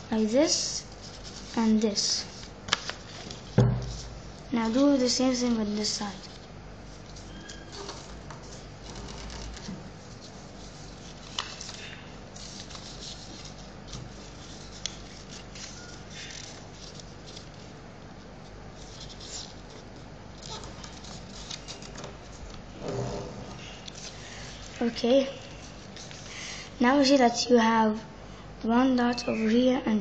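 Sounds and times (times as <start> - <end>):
paper rustling and crinkling: 0.2 - 26.7.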